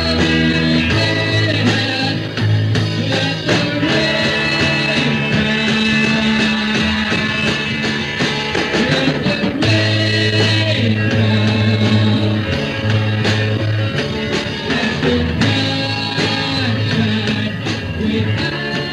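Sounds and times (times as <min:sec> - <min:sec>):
rock band playing live: 0:00.0 - 0:18.9.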